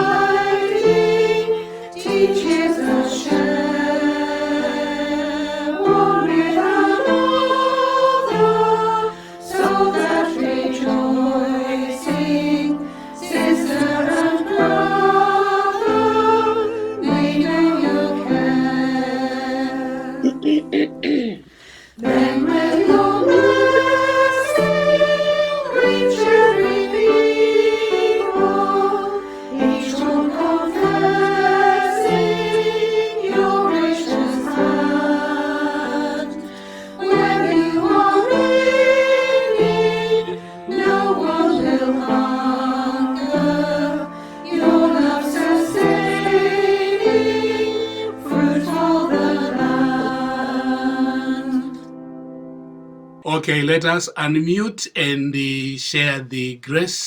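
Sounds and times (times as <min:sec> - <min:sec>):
choir singing a hymn: 0:00.0 - 0:20.6, 0:22.0 - 0:51.9.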